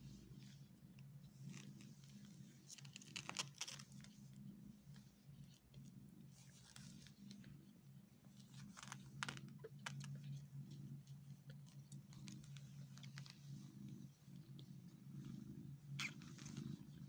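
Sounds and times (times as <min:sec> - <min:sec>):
cat purring: 0:00.0 - 0:17.0
small clicks and rustles: 0:00.3 - 0:17.0.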